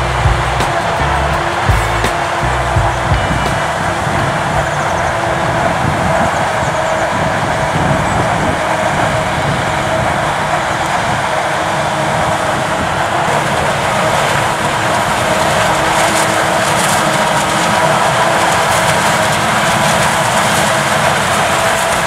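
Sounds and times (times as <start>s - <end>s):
forage harvester high whine: 0.0s - 22.0s
tractor engine: 0.0s - 22.0s.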